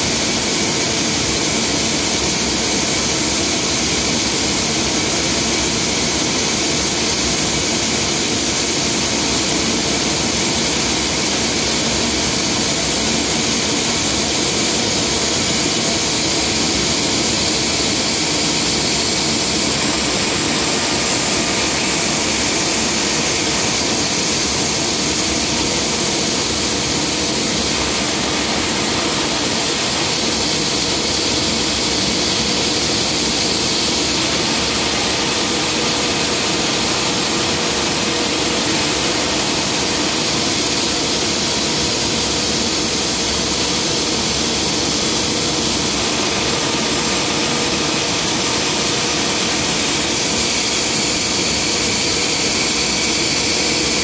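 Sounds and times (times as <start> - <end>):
aircraft systems hiss and whine: 0.0 - 54.0.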